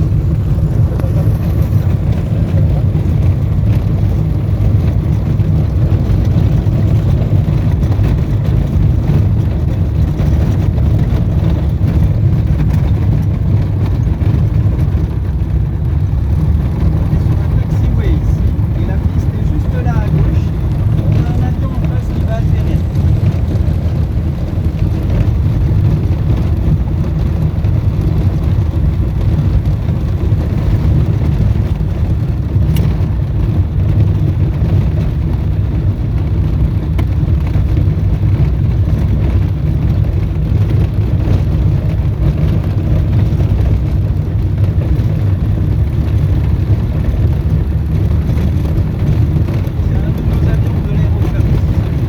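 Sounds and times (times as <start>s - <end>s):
small plane engine droning: 0.0s - 52.0s.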